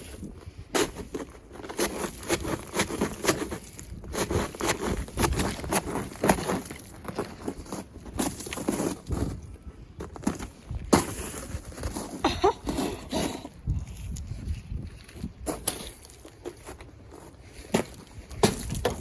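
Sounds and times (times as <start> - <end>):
boot crunching ice and snow: 0.0 - 19.0.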